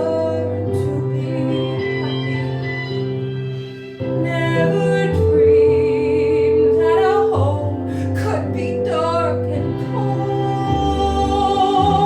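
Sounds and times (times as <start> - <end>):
woman singing a slow ballad: 0.0 - 2.9, 4.0 - 12.0
instrumental accompaniment: 0.0 - 12.0.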